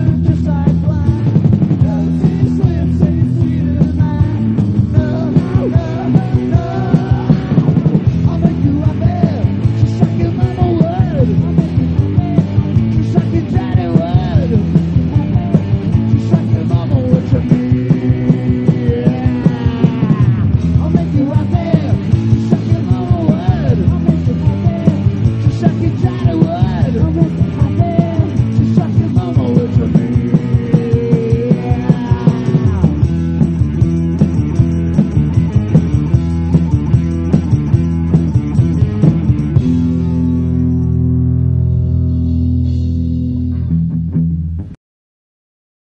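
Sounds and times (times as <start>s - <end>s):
hard rock band playing: 0.0s - 44.8s
lead guitar with bending notes: 0.0s - 44.8s.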